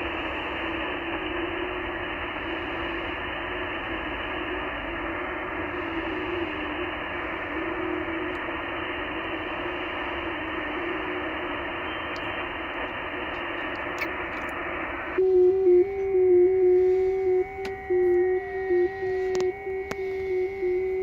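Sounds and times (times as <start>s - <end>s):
radio band noise hiss: 0.0s - 21.0s
warbling data tone: 3.6s - 21.0s.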